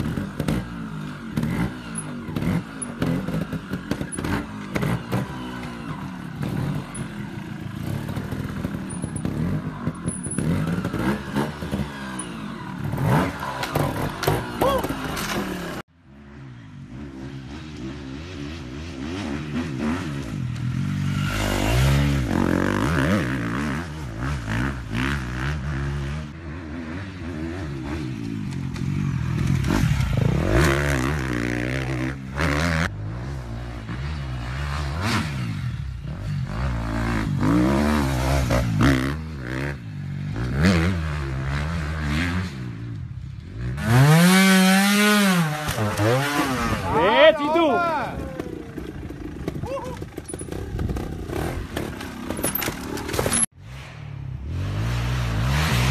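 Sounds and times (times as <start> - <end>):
dirt bike engine revving: 0.0 - 15.8, 16.8 - 53.8, 54.4 - 55.9.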